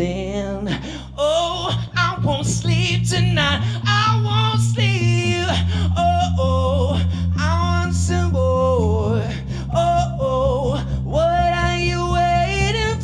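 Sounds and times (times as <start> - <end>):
electric bass guitar notes: 0.0 - 13.0
man singing wordless phrases: 0.0 - 13.0.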